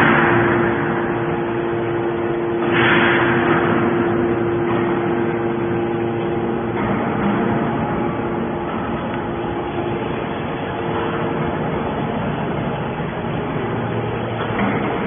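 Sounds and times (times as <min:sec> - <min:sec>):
hydraulic power unit hum: 0:00.0 - 0:15.0
hydraulic press rushing: 0:00.0 - 0:15.0.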